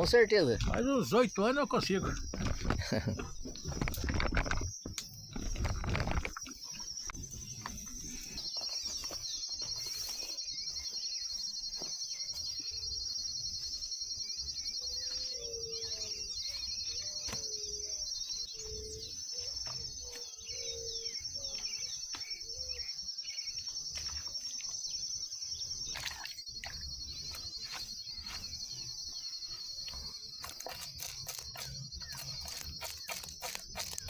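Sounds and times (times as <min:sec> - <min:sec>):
birds chirping: 0:00.0 - 0:34.0
insects buzzing: 0:00.0 - 0:34.0.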